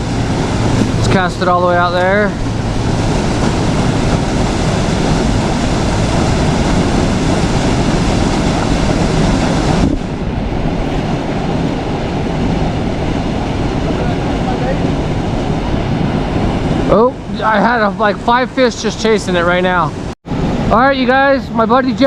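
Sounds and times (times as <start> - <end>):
fast-flowing river rushing: 0.0 - 22.0.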